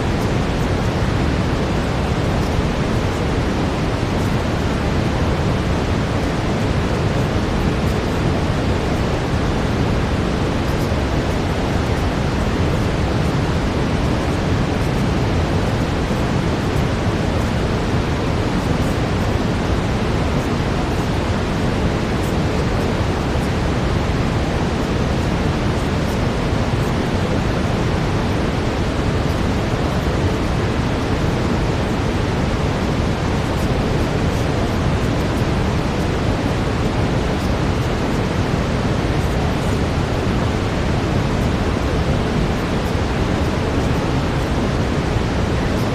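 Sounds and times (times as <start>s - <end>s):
brown noise hiss: 0.0s - 45.9s.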